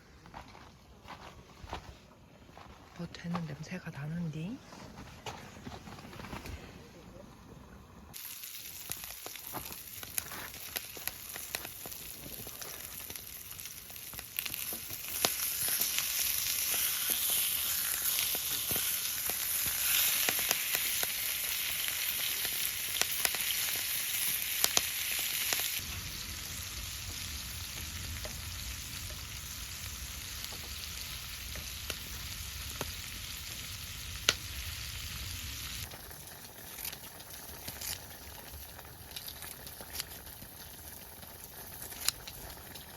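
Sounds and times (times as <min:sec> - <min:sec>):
food sizzling in a hot pan: 0:08.1 - 0:42.9.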